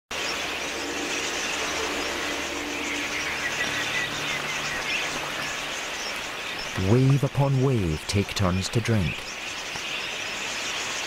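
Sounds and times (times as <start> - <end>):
flock of budgerigars chattering: 0.1 - 11.0.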